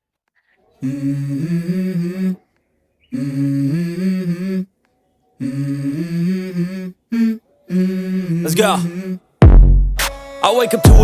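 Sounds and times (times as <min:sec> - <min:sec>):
hummed vocal melody: 0:00.7 - 0:09.6.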